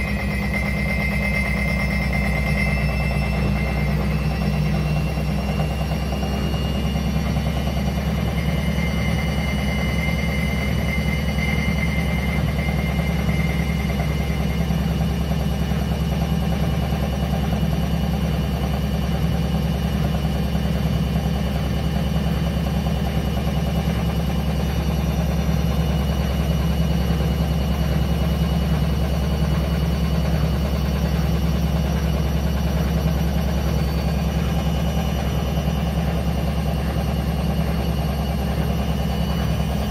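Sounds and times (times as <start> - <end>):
high whine: 0.0 - 39.9
washing machine drum spinning: 0.0 - 39.9.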